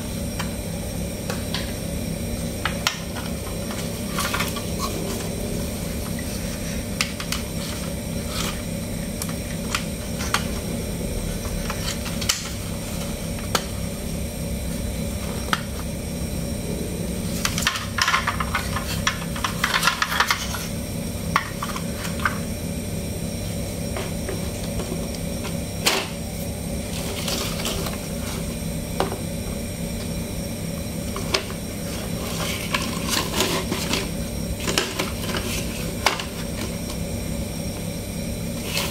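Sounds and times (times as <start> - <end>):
low hum: 0.0 - 37.5.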